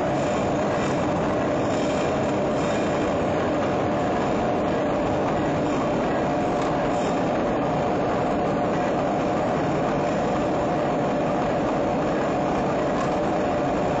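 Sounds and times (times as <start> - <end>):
wire spooler machine running: 0.0 - 14.0.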